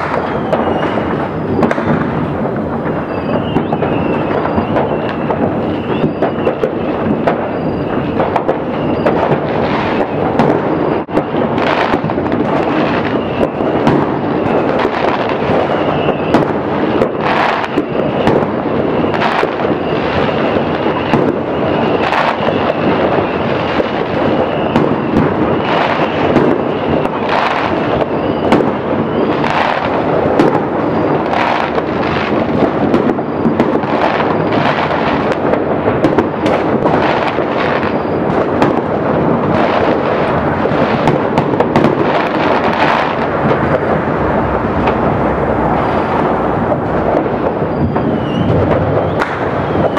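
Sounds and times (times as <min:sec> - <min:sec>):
distant fireworks rumble and crackling: 0:00.0 - 0:49.9
loud firework reports: 0:00.0 - 0:49.9.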